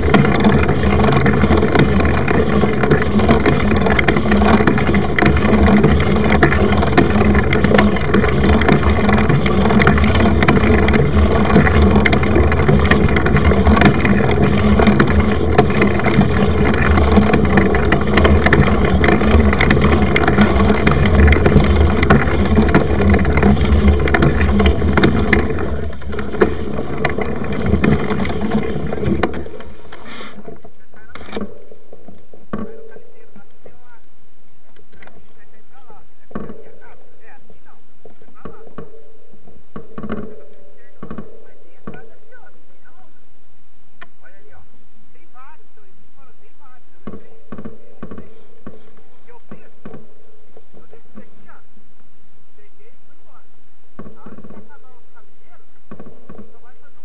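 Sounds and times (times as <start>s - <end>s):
bike tyres rolling on gravel: 0.0s - 57.0s.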